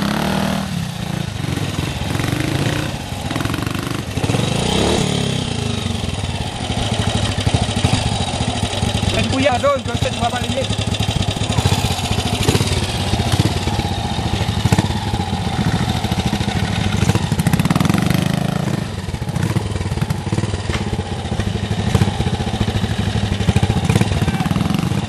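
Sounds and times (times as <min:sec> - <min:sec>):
motorcycle engine at low revs: 0:00.0 - 0:25.0.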